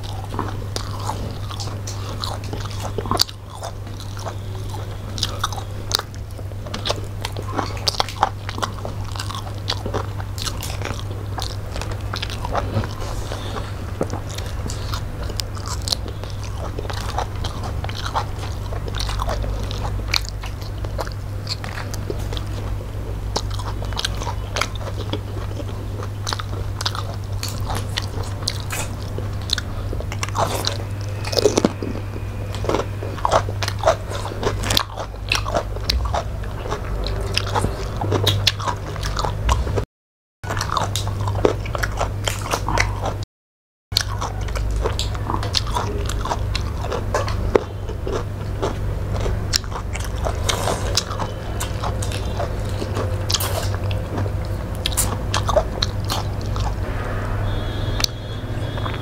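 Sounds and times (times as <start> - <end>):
people chewing and biting: 0.0 - 39.8, 40.5 - 43.2, 44.0 - 59.0
steady low hum: 0.0 - 39.8, 44.0 - 59.0.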